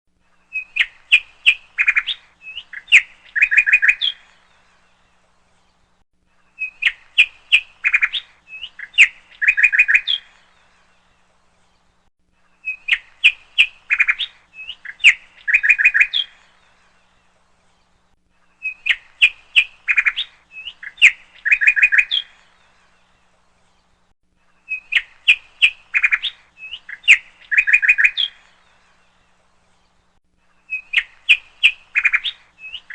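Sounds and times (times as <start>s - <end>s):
bird chirping song: 0.2s - 32.9s.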